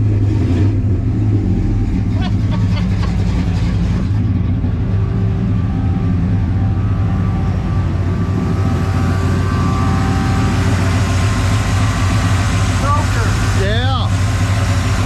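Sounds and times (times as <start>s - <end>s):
truck engine with lumpy idle: 0.0s - 15.0s.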